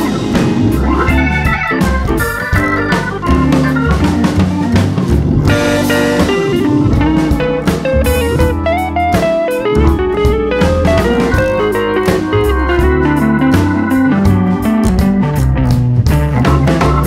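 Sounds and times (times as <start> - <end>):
blues guitar melody: 0.0 - 17.0
drum kit beat: 0.0 - 17.0.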